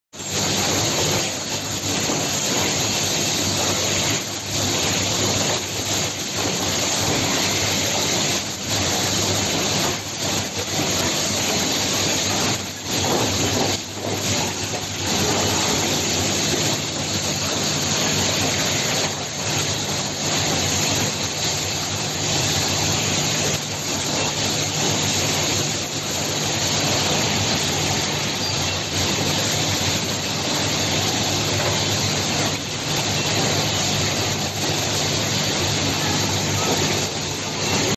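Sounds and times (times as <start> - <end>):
machinery hiss and hum: 0.2 - 37.9.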